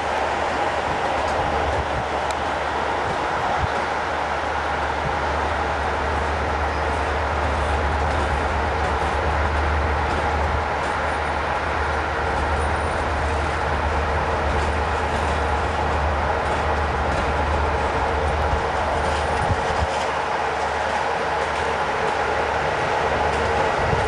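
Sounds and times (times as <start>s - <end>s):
electric locomotive rumble and hum: 0.0s - 24.0s.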